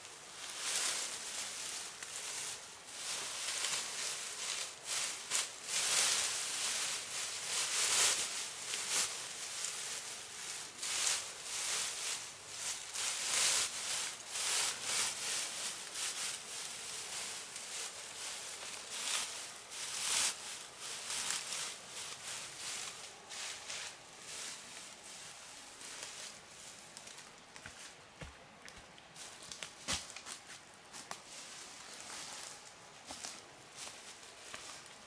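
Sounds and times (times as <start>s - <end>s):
rustling and scraping: 0.0s - 35.0s.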